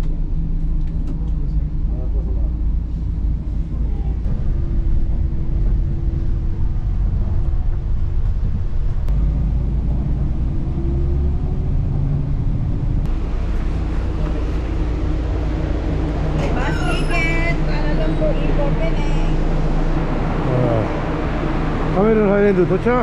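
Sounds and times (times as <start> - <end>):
bus engine rumbling: 0.0 - 23.0.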